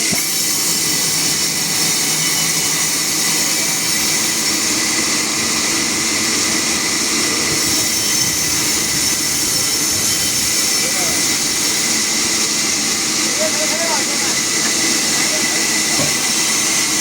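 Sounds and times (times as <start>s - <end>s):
sawmill machinery hiss: 0.0s - 17.0s.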